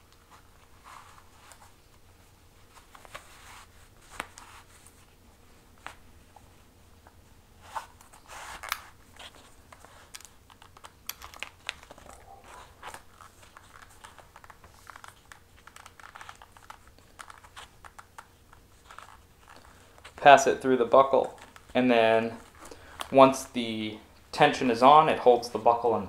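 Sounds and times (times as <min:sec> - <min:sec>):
leather strap rustling and creaking: 0:00.1 - 0:05.2, 0:05.8 - 0:23.2.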